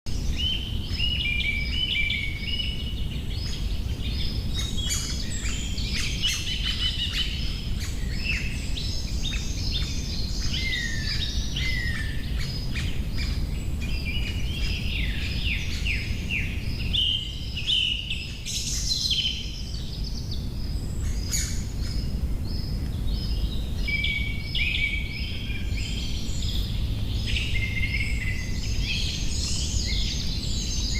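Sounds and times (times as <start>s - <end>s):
low background rumble: 0.1s - 30.9s
small birds singing and chirping: 0.1s - 30.9s.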